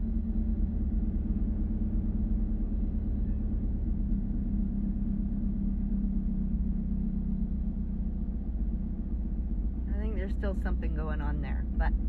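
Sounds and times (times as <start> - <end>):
car engine idling: 0.0 - 12.0
faint engine tick: 0.0 - 12.0.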